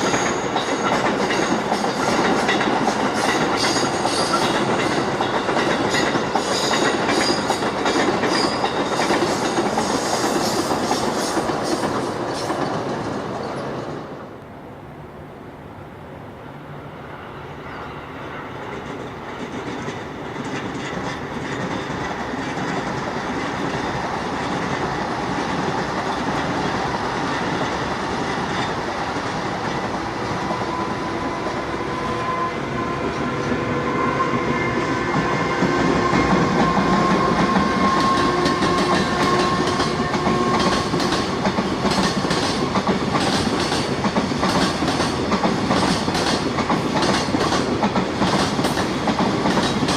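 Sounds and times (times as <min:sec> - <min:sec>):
train wheels clicking over rail joints: 0:00.0 - 0:14.2, 0:18.6 - 0:30.8, 0:35.0 - 0:49.9
electric train whine: 0:00.0 - 0:49.9.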